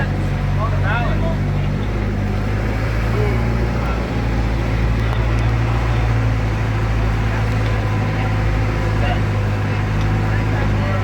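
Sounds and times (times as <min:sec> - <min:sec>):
boat engine droning: 0:00.0 - 0:11.0
water rushing: 0:00.0 - 0:11.0.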